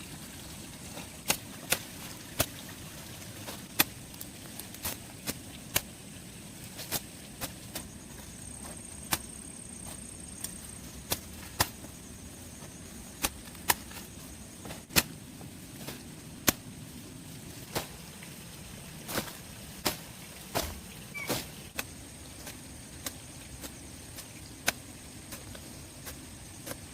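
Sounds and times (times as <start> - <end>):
faint background hiss: 0.0 - 26.9.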